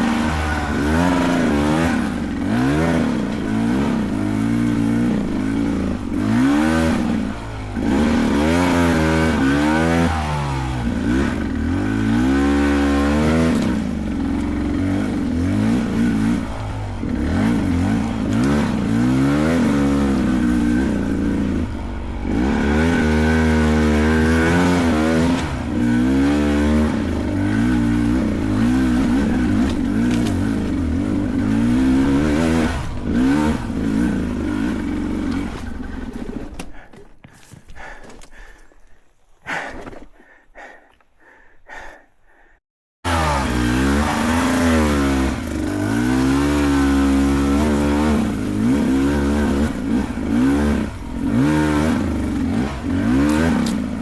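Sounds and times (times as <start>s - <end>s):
dirt bike engine revving: 0.0s - 36.8s, 43.1s - 54.0s.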